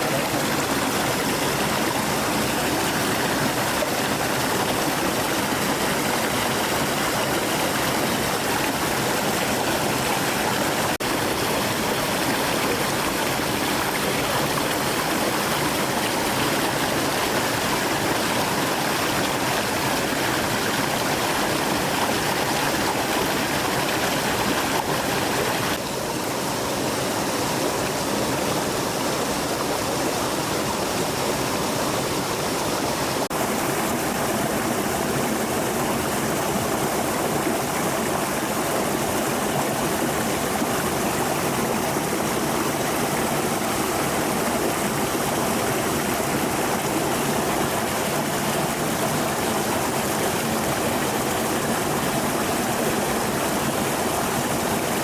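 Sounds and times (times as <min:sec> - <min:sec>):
flowing stream: 0:00.0 - 0:55.0.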